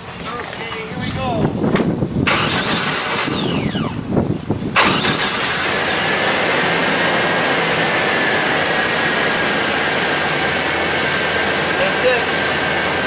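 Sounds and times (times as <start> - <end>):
truck engine cranking and running: 0.0 - 13.0.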